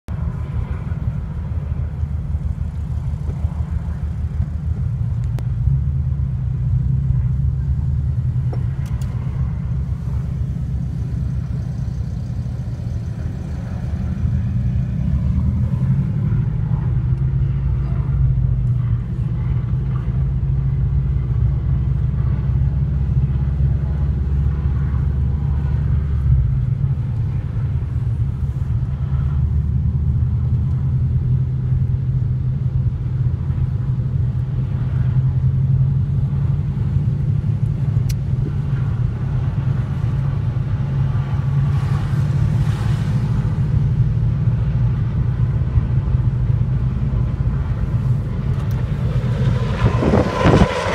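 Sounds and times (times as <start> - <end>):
car engine rumble inside cabin: 0.1 - 50.9.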